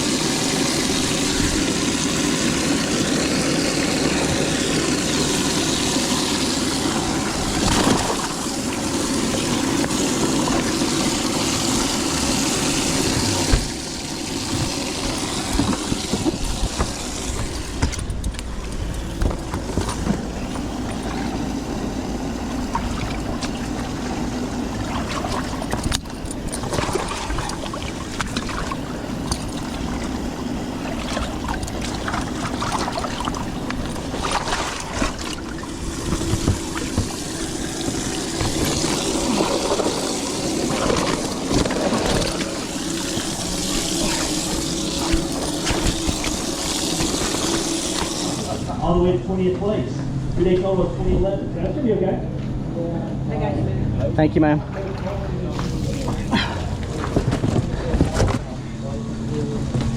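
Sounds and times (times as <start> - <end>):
water noise: 0.0 - 49.4, 52.6 - 59.9
outboard engine running: 0.0 - 59.9.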